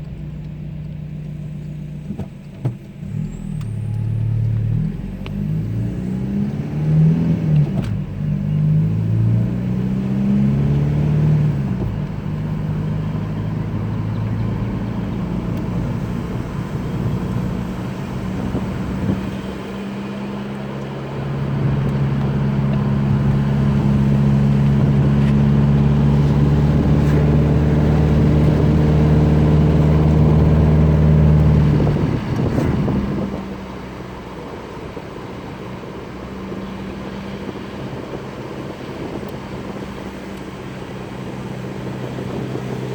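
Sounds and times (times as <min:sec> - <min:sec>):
diesel car engine driving: 0:00.0 - 0:42.9.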